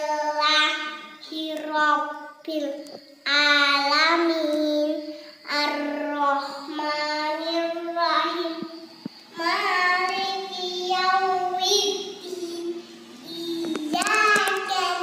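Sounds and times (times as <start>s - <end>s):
girl chanting prayer: 0.0s - 15.0s.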